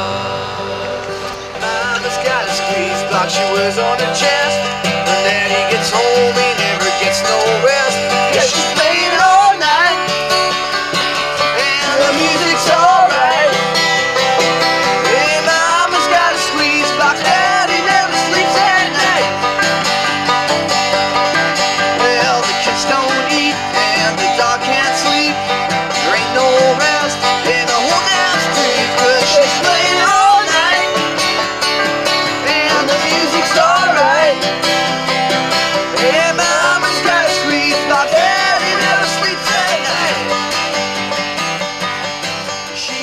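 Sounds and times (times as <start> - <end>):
acoustic guitar: 0.0 - 43.0
banjo playing: 0.0 - 43.0.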